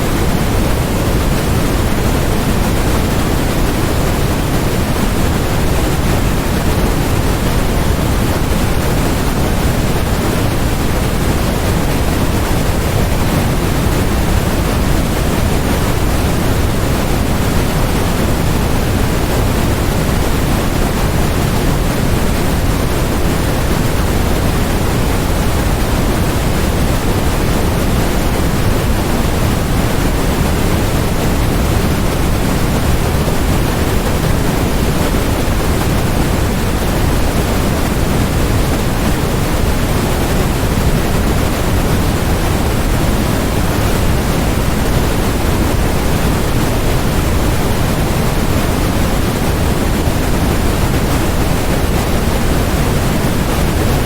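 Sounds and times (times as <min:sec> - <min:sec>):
steady low hiss: 0:00.0 - 0:54.0.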